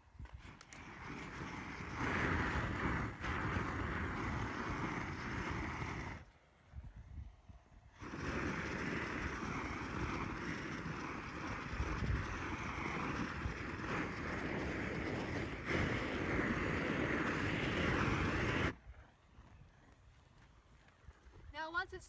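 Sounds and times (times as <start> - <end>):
propane torch flame rushing: 0.0 - 6.9, 7.8 - 18.8.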